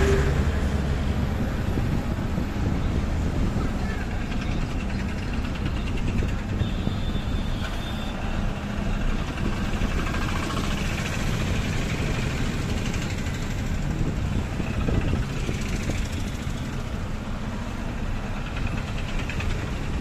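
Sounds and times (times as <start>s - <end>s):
car engine and road noise: 0.0s - 20.0s
nearby vehicle engines running: 0.0s - 20.0s.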